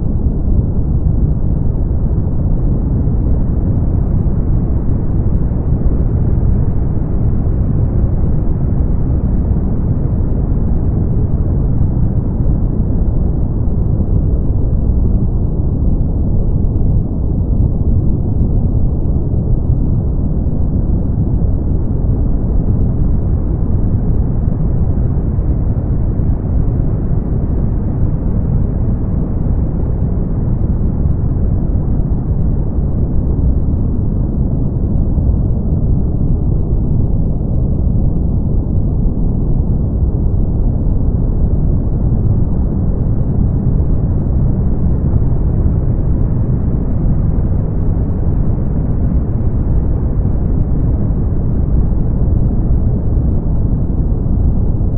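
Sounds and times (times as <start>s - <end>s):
brown noise: 0.0s - 54.9s.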